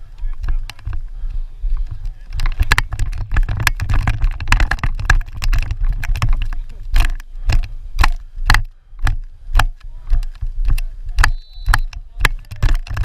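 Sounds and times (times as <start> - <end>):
footsteps: 0.0 - 13.0.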